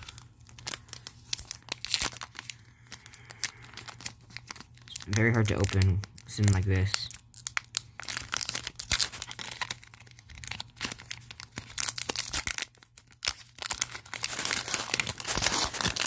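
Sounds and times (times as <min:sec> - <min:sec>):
foil wrapper crinkling: 0:00.0 - 0:16.0.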